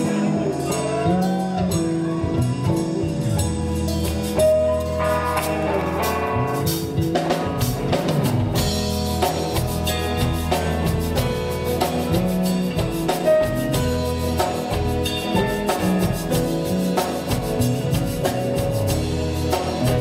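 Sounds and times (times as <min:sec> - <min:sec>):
instrumental band music: 0:00.0 - 0:20.0.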